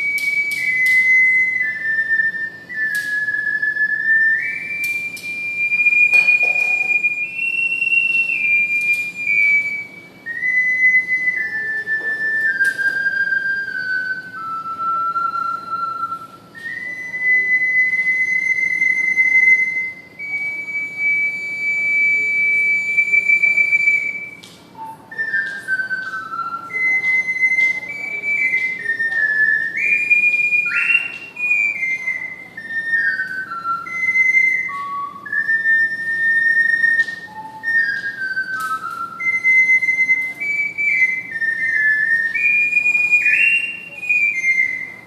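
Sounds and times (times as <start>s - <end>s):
ocarina melody: 0.0s - 45.0s.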